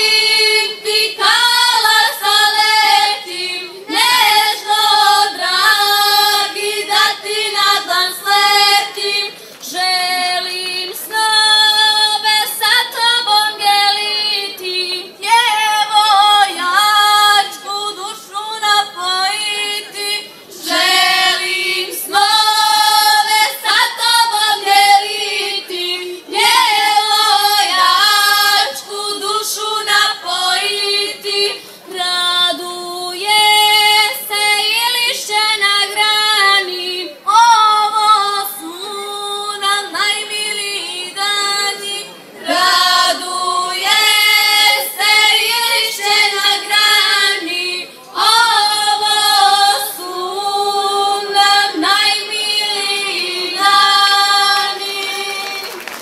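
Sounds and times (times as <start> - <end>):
girls' vocal group singing: 0.0 - 55.8.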